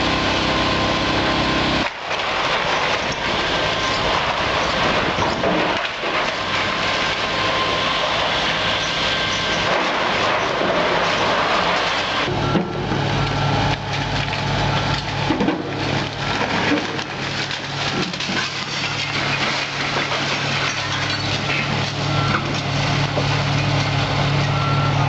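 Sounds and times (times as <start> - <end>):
debris crunching: 0.0 - 25.0
excavator engine running: 0.0 - 25.0
wood cracking and splintering: 0.0 - 25.0.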